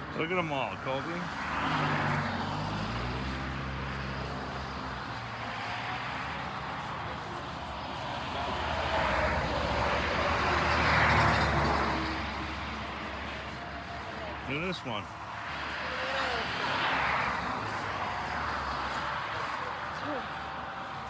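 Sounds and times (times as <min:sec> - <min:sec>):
vehicle passing: 0:00.0 - 0:21.0.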